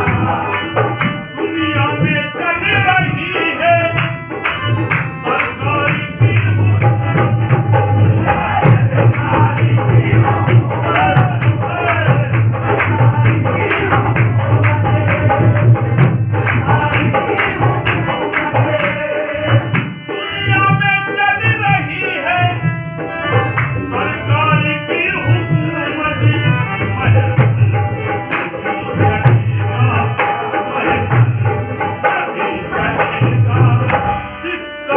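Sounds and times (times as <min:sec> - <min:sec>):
rhythmic hand clapping: 0:00.0 - 0:34.3
harmonium: 0:00.0 - 0:34.9
men singing together: 0:00.0 - 0:34.9.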